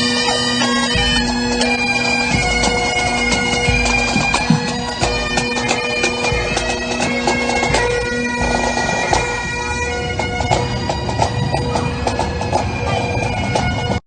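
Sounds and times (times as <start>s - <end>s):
bagpipes playing a tune: 0.0s - 14.0s.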